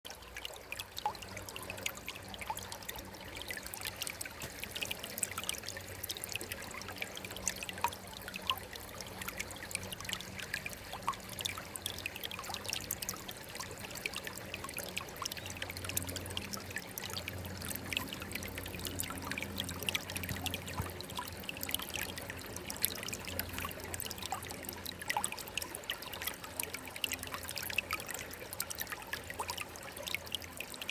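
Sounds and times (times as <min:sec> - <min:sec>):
water trickling and splashing: 0:00.0 - 0:30.9.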